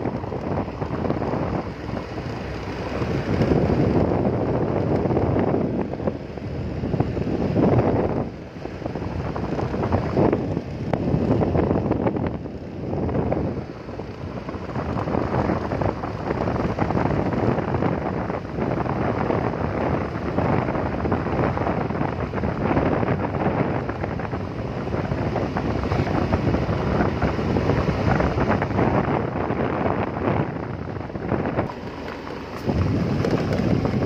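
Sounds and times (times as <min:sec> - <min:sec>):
vehicle rumble: 0:00.0 - 0:34.0
wind buffeting microphone: 0:00.0 - 0:34.0.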